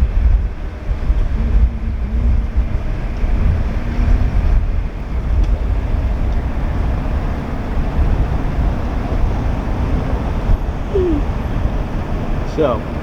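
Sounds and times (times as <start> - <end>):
boat diesel engine rumble: 0.0 - 13.0.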